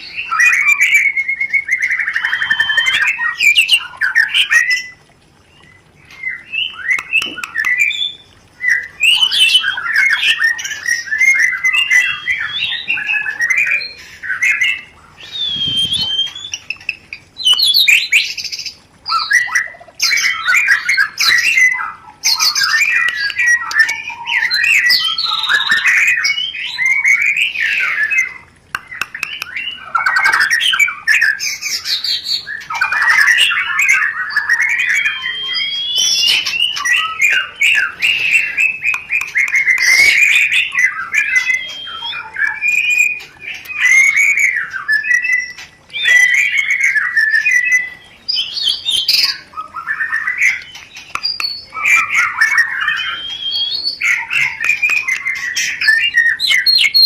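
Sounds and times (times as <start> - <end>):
songbird singing varied phrases: 0.0 - 57.0.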